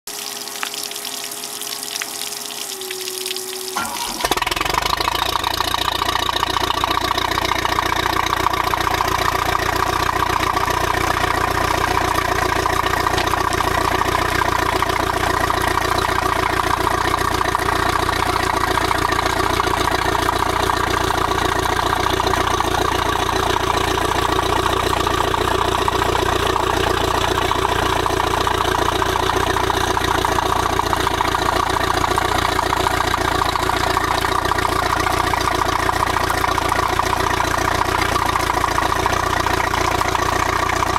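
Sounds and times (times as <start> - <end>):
boat engine whine: 0.2 - 40.9
boat engine idling: 2.6 - 40.9.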